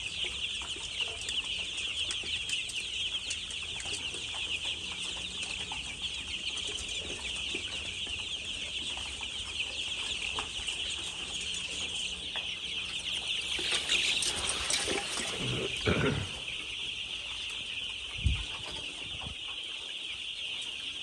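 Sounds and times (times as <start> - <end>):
flock of chickens chirping: 0.0 - 21.0.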